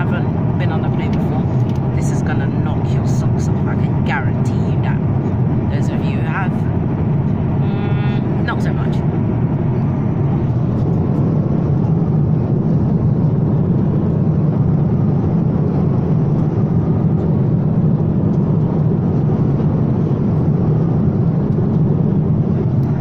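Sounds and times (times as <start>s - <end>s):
airliner cabin engine hum: 0.0s - 23.0s.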